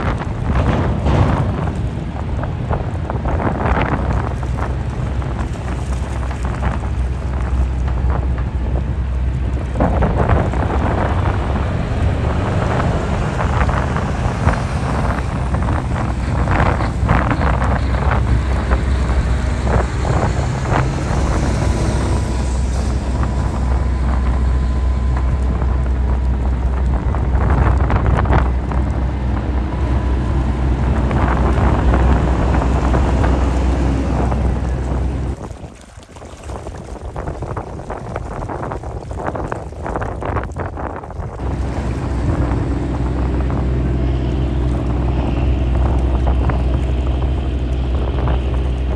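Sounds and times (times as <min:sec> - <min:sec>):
truck diesel engines rumbling: 0:00.0 - 0:35.6, 0:40.8 - 0:48.9
wind buffeting microphone: 0:00.0 - 0:48.9.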